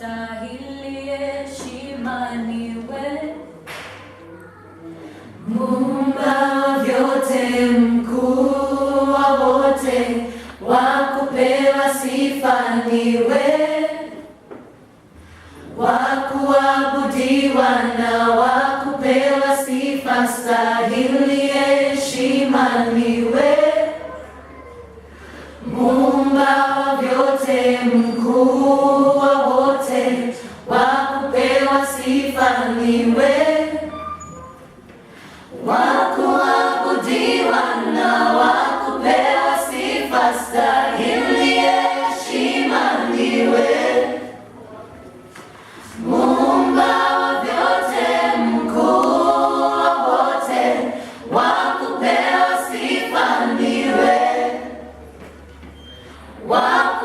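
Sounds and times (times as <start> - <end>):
vocal group singing in harmony: 5.0 - 14.5, 15.2 - 24.4, 25.0 - 34.4, 35.0 - 44.6, 45.5 - 57.0.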